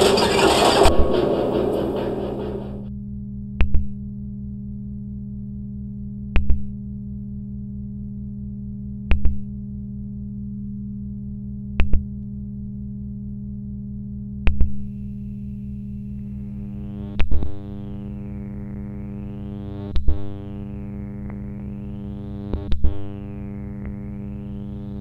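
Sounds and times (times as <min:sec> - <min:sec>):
low synthetic hum with pulsing throb: 0:00.0 - 0:25.0.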